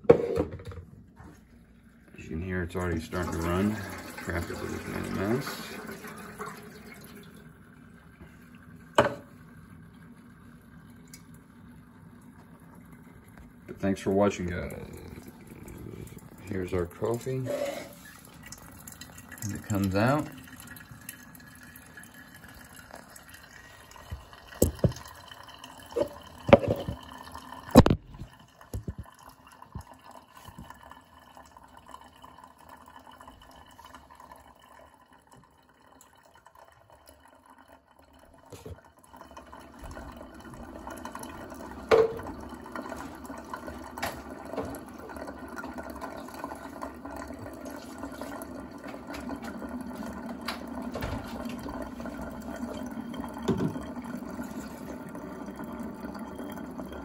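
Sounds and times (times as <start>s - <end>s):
coffee streaming into a decanter: 0.0s - 57.0s.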